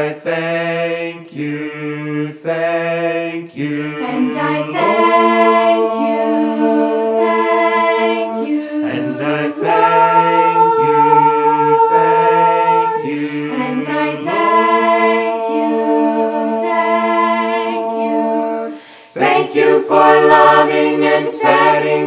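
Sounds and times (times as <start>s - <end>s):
choir singing a cappella: 0.0s - 22.0s.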